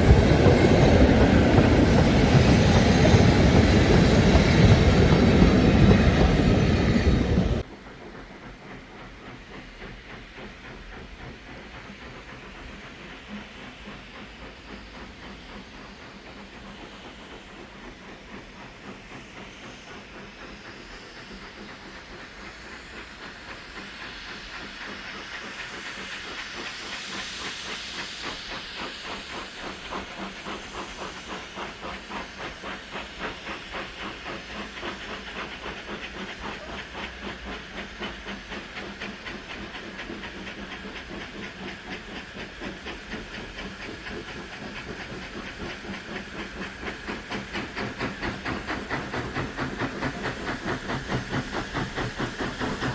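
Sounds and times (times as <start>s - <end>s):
steam locomotive hissing: 0.0s - 52.9s.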